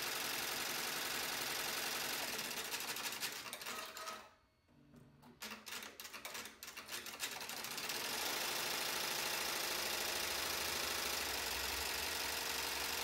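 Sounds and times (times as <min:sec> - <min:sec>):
embroidery machine stitching: 0:00.0 - 0:04.4, 0:05.2 - 0:13.0.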